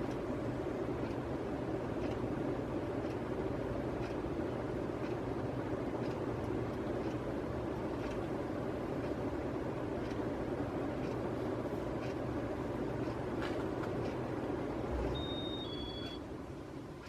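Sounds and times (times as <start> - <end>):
ceiling fan whirring: 0.0 - 17.0
faint ticking: 0.0 - 17.0.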